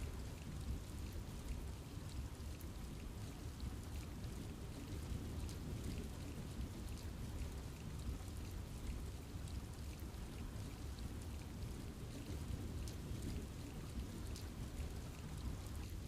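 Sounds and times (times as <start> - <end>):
sharp ticks of raindrops: 0.0 - 16.0
steady rain on trees: 0.0 - 16.0.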